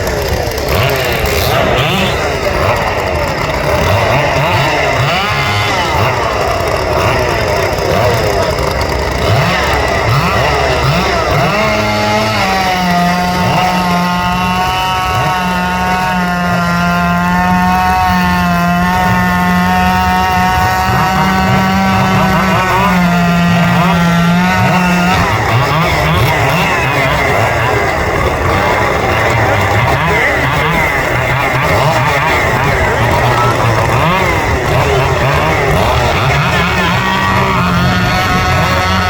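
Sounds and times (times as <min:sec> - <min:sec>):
chainsaw engines revving: 0:00.0 - 0:39.0.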